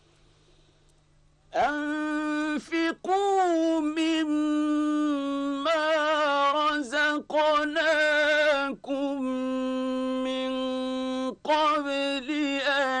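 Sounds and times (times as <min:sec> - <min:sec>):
man reciting melodically: 0:01.5 - 0:13.0.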